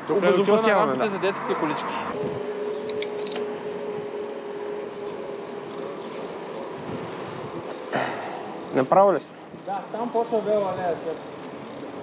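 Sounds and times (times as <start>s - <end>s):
bicycle riding rush: 0.0s - 12.0s.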